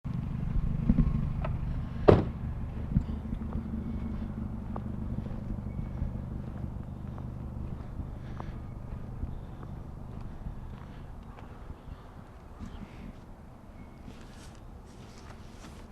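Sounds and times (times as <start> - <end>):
vehicle engine idling: 0.1 - 15.9.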